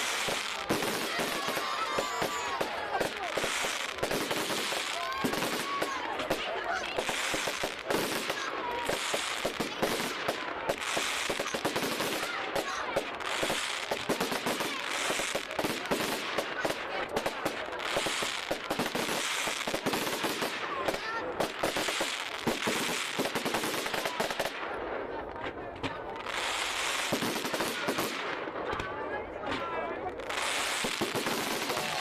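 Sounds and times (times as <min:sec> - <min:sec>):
fireworks hissing: 0:00.0 - 0:16.5, 0:17.8 - 0:24.5, 0:26.2 - 0:28.3, 0:30.2 - 0:32.0
fireworks crackling: 0:00.0 - 0:32.0.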